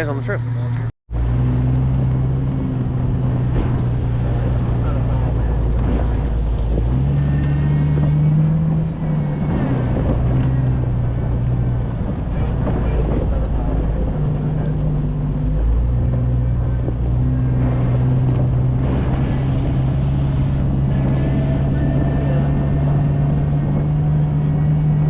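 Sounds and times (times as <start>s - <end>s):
car engine running: 0.0s - 25.0s
rough road noise: 0.0s - 25.0s
wind on microphone: 1.2s - 25.0s.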